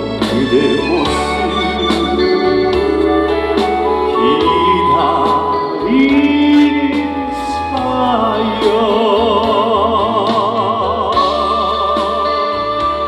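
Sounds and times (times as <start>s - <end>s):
bass line: 0.0s - 13.0s
organ-like keyboard: 0.0s - 13.0s
steady drum beat: 0.0s - 13.0s
man singing: 0.2s - 13.0s.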